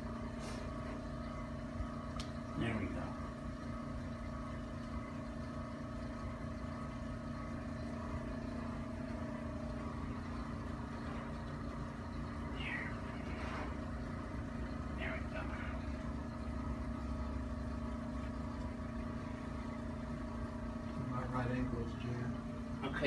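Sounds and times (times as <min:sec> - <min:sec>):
machine hum with low tones: 0:00.0 - 0:23.0.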